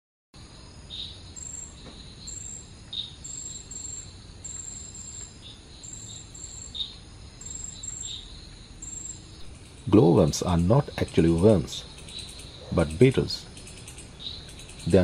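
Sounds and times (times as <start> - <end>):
insects trilling: 0.4 - 15.0
lower insect chirp: 0.4 - 15.0.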